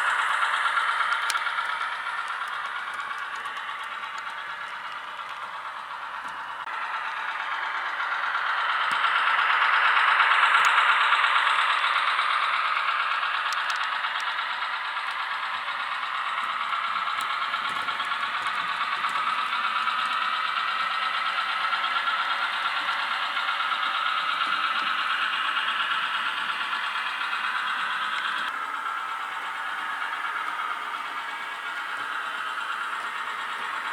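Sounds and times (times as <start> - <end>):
model locomotive diesel engine sound: 0.0 - 33.9.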